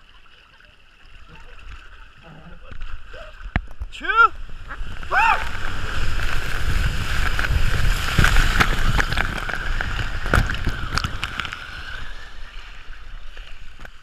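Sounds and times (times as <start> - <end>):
sharp water splashes: 0.0 - 14.0
water rushing down a slide: 0.0 - 14.0.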